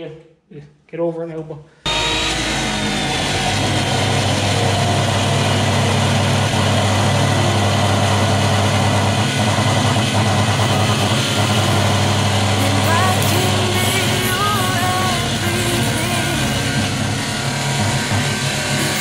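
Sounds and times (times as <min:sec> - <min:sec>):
chop saw grinding steel: 0:01.9 - 0:19.0
motor hum: 0:01.9 - 0:19.0.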